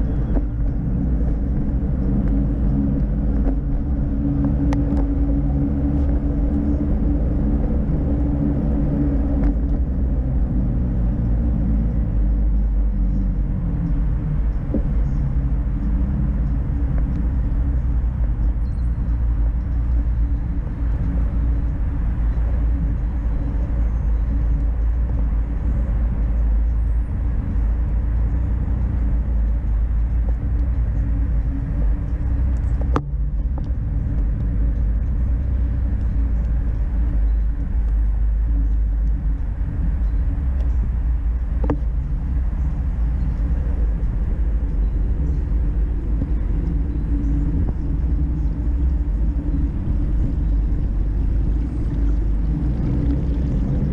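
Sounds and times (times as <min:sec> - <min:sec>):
vehicle engine rumble: 0:00.0 - 0:53.9
wind on camera: 0:00.0 - 0:53.9.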